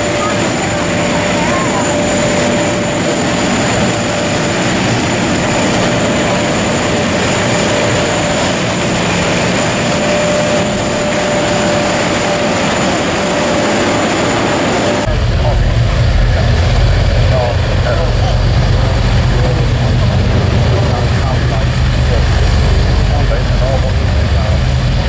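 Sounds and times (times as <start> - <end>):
aircraft engine rush and whine: 0.0 - 25.0.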